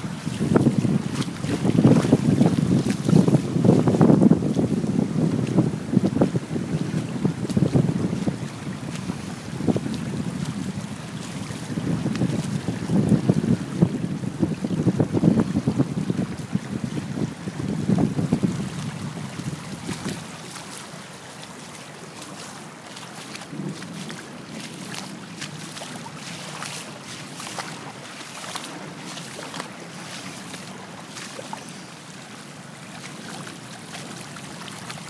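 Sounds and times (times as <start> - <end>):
floodwater rushing and gurgling: 0.0 - 35.0.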